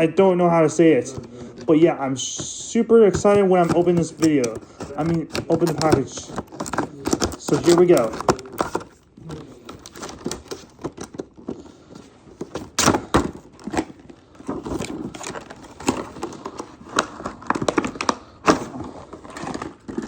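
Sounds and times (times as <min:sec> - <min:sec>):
packaging clicks and taps: 0:02.3 - 0:20.0.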